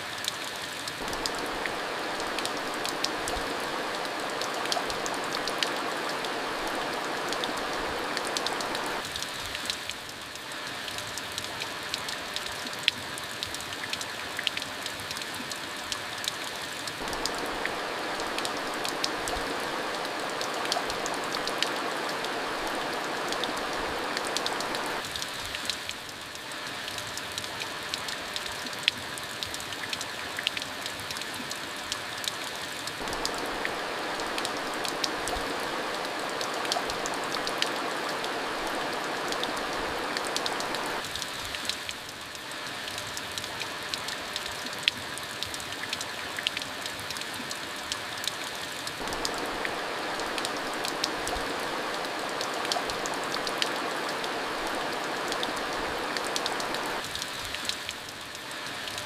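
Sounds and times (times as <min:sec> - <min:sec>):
raindrops ticking on a surface: 0:00.0 - 0:59.0
steady rain hiss: 0:00.0 - 0:59.0.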